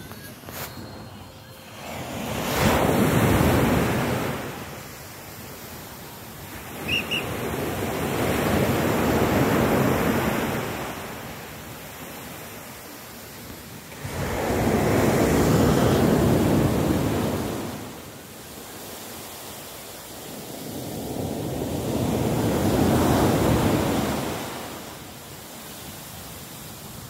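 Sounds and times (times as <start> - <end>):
surf washing up sand beach: 0.0 - 27.0.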